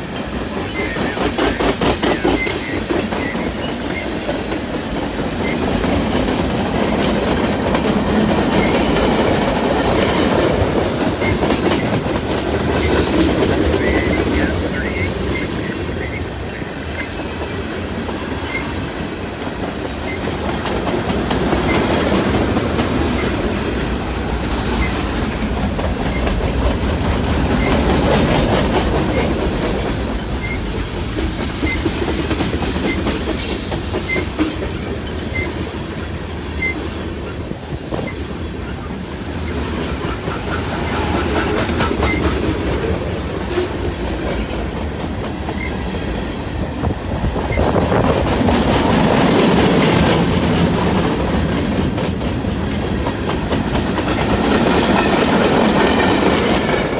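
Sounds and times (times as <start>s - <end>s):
freight train cars rumbling: 0.0s - 56.9s
wheels clicking over rail joints: 0.0s - 56.9s.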